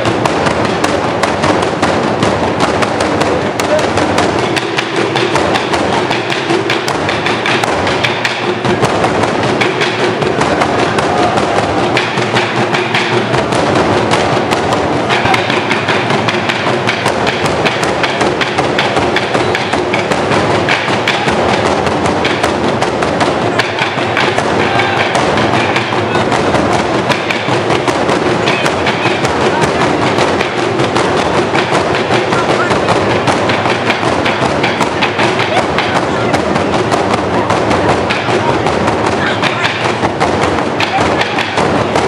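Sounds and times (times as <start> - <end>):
barrel drums beaten with sticks: 0.0 - 42.0.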